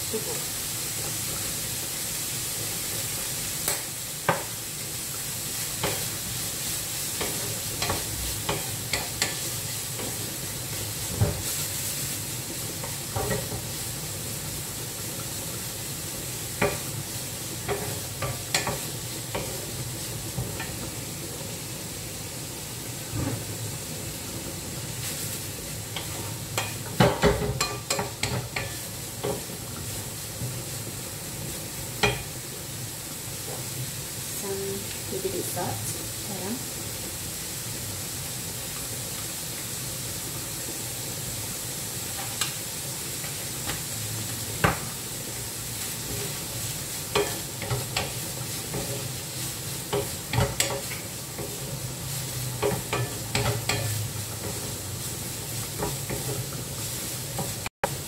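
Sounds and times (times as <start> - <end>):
rice sizzling in a wok: 0.0 - 58.0.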